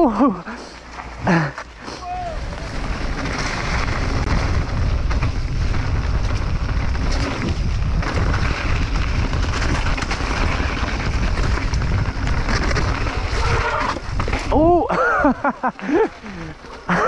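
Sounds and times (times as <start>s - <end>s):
bike tyres rumbling on trail: 0.0s - 17.0s
bike rattling with clicks: 0.6s - 17.0s
wind buffeting microphone: 2.0s - 16.6s.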